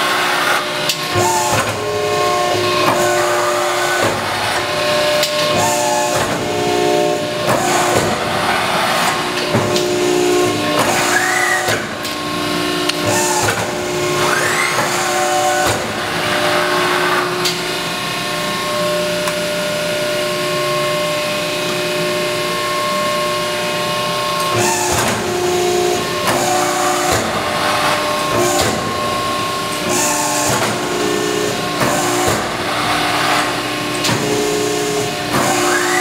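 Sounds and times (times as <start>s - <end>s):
hydraulic pump humming: 0.0s - 36.0s
short machine whines: 1.0s - 36.0s.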